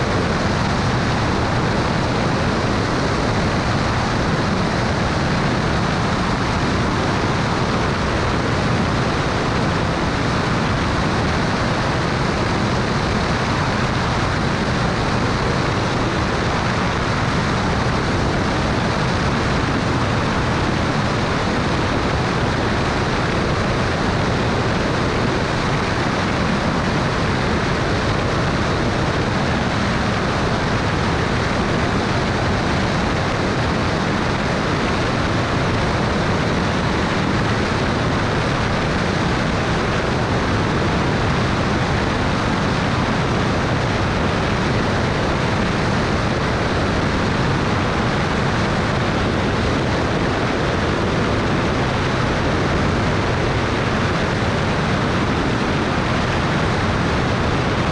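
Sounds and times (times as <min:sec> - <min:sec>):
propeller plane engine: 0:00.0 - 0:57.9.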